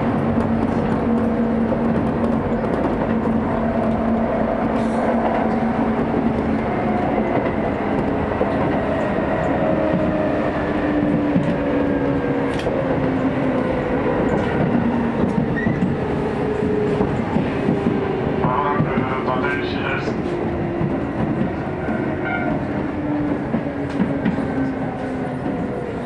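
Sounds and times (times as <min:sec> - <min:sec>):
train rumbling from inside: 0:00.0 - 0:26.0.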